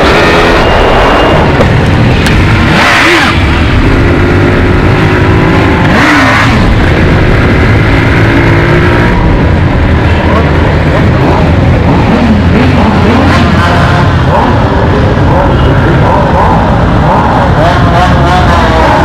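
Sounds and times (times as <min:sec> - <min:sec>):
wind rumble on microphone: 0:00.0 - 0:15.2
motorcycle engines revving: 0:00.0 - 0:19.0.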